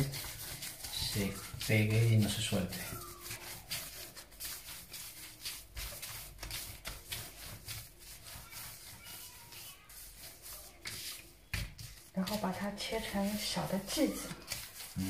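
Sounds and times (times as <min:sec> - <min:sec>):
dough rolling swishes: 0:00.0 - 0:15.0.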